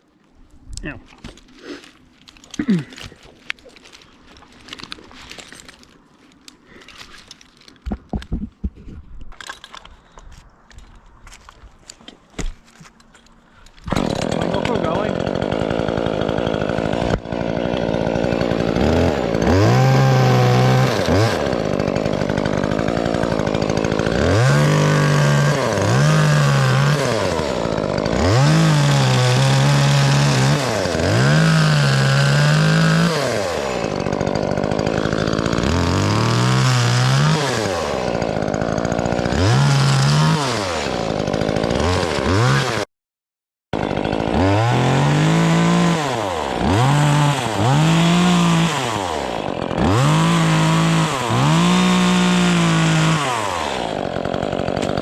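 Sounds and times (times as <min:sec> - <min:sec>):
battery chainsaw whining: 0:01.2 - 0:08.5, 0:13.6 - 0:42.9, 0:43.8 - 0:55.0.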